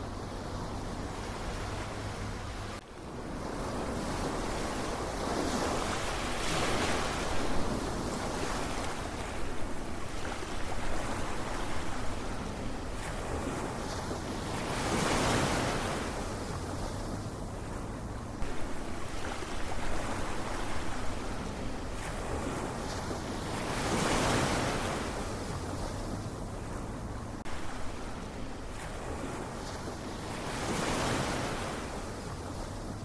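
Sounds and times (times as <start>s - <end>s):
ocean waves surging: 0.0s - 33.0s.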